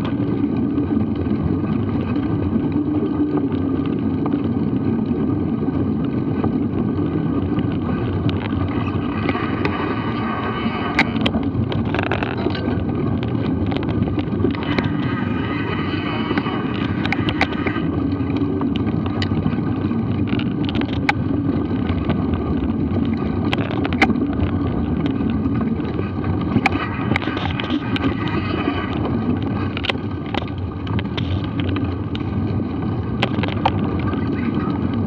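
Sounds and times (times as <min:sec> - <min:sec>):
bike rattling over bumps: 0:00.0 - 0:35.0
bike tyres rumbling on dirt: 0:00.0 - 0:35.0
wind on microphone: 0:00.0 - 0:35.0.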